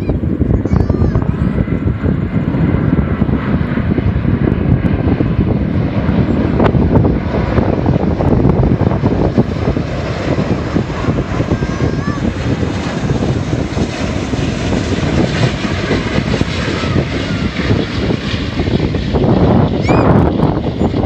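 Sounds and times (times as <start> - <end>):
jet airliner roar: 0.0 - 21.0.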